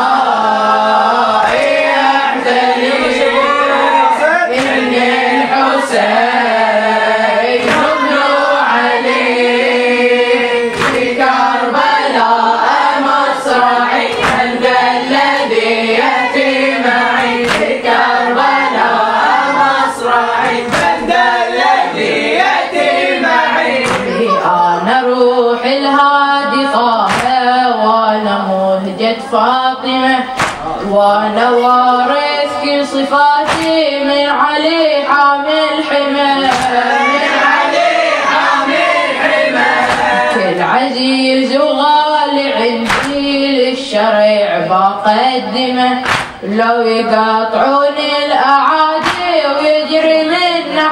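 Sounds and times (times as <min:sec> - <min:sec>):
boys singing a mourning chant: 0:00.0 - 0:50.9.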